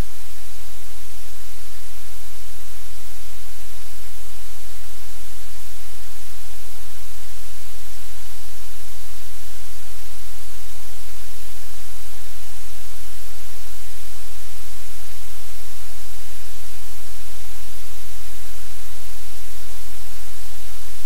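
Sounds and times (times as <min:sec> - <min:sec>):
static hiss: 0:00.0 - 0:21.0.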